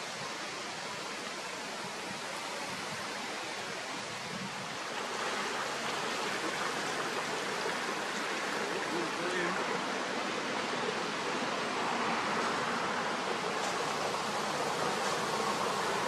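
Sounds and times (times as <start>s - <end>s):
rushing river water: 0.0s - 16.0s
wind: 0.0s - 16.0s.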